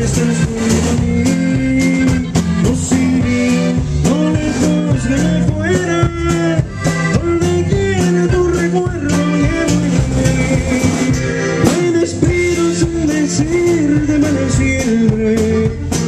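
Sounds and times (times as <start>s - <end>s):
accordion melody: 0.0s - 16.0s
guitar strumming: 0.0s - 16.0s
steady beat: 0.0s - 16.0s
walking bass line: 0.0s - 16.0s.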